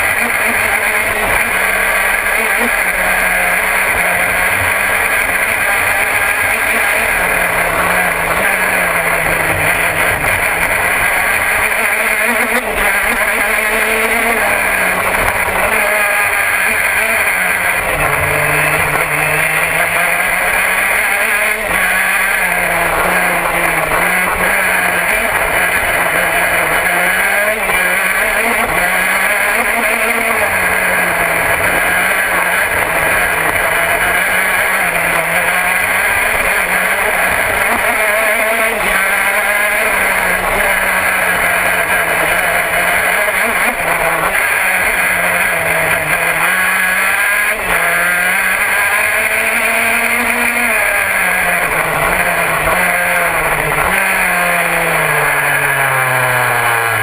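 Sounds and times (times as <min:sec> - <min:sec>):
kart engine at racing speed: 0:00.0 - 0:57.0.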